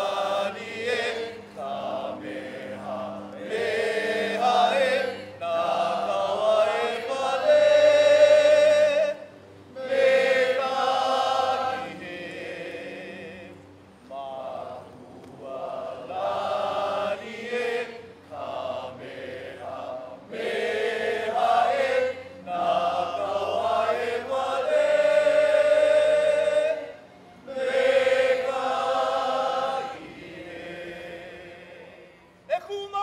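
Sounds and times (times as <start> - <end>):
group of voices singing: 0.0 - 32.3.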